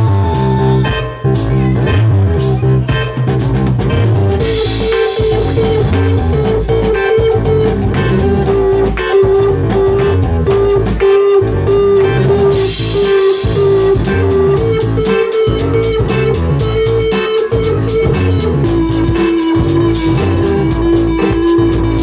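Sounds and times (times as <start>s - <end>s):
bass guitar: 0.0s - 22.0s
drums beat: 0.0s - 22.0s
electric guitar lead note: 0.0s - 22.0s.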